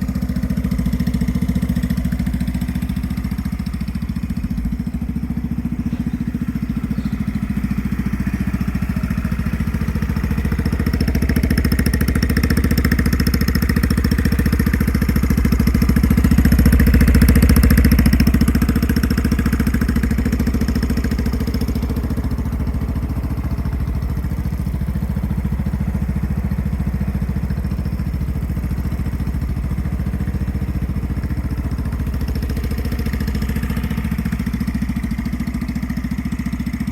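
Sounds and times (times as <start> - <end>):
scooter engine idling: 0.0 - 36.9.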